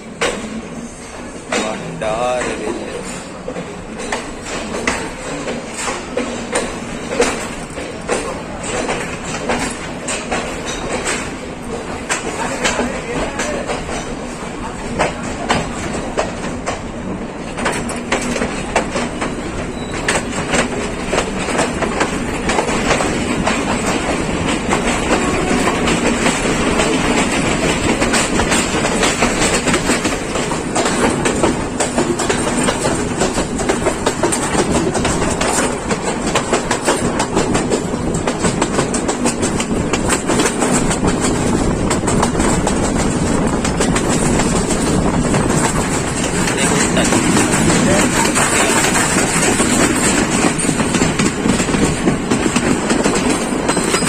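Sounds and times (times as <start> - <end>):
train rumble: 0.0 - 54.0
wheels clattering over rails: 0.0 - 54.0.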